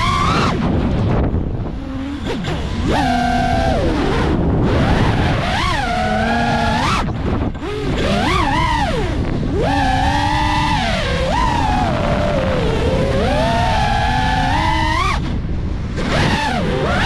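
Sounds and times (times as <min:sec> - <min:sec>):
drone motors whining: 0:00.0 - 0:17.0
wind on microphone: 0:00.0 - 0:17.0.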